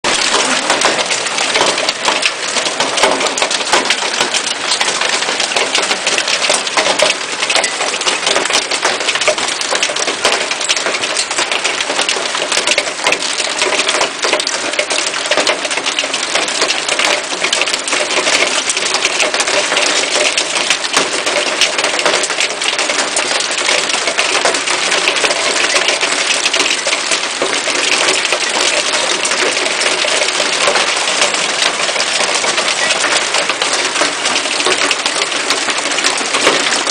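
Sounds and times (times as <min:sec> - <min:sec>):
hailstones clattering: 0:00.0 - 0:36.9.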